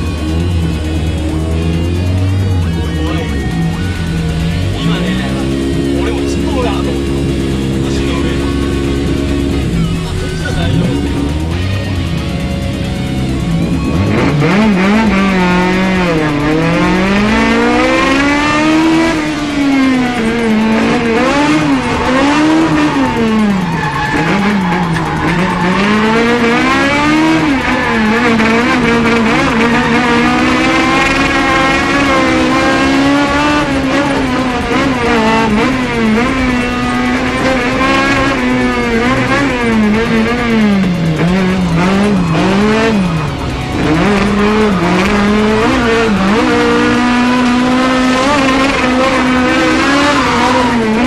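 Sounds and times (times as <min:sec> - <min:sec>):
car engine revving: 0:00.0 - 0:51.0
tyres squealing: 0:02.6 - 0:51.0.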